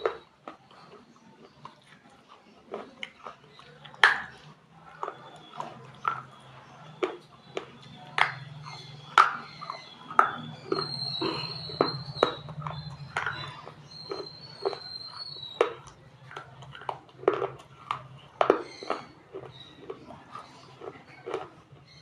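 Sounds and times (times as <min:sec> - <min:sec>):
dry clay crunching when chewed: 0:00.0 - 0:22.0.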